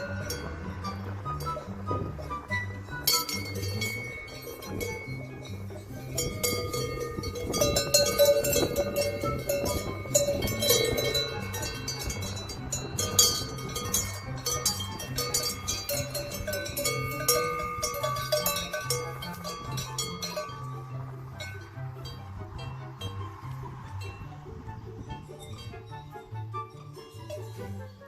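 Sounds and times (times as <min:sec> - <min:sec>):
low note shifting in pitch: 0:00.0 - 0:27.8
cowbells clanking: 0:00.0 - 0:28.0.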